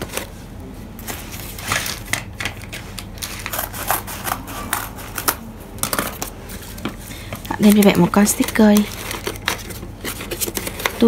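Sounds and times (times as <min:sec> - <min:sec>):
clicks and rustles of packaging: 0:01.0 - 0:11.0.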